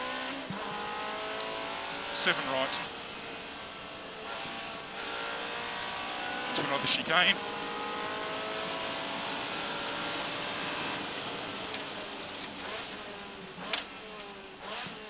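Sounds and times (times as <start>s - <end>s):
car engine from inside: 0.0s - 15.0s
road and tyre noise: 0.0s - 15.0s.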